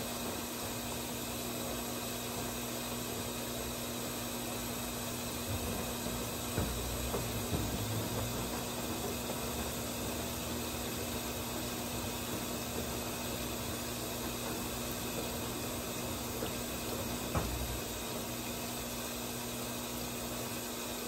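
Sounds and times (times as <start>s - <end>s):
water running into washing machine: 0.0s - 21.0s.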